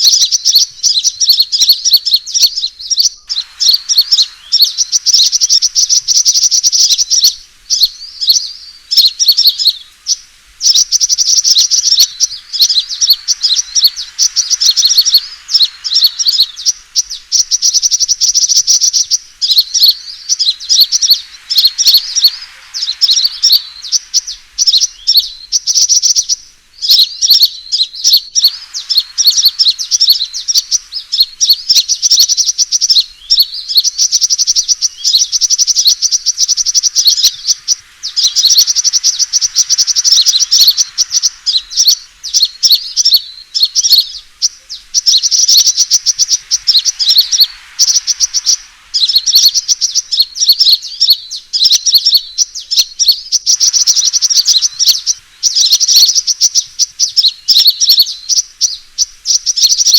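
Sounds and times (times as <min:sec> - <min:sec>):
sunbird chirping and twittering trills: 0:00.0 - 0:59.9.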